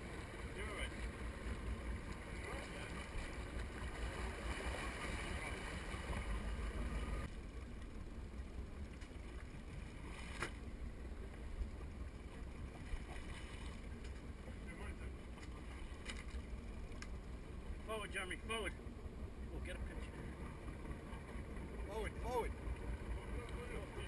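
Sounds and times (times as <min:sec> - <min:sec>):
steady low rumble: 0:00.0 - 0:24.0
water rushing along boat hull: 0:00.0 - 0:24.0.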